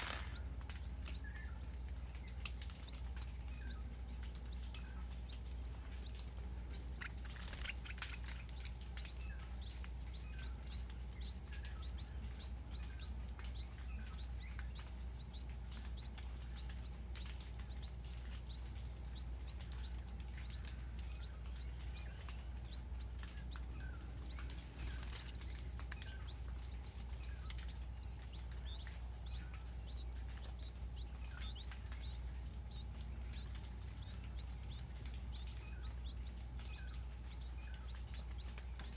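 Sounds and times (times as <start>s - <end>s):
bird chirping: 0.0s - 38.9s
faint steady hum: 0.0s - 38.9s.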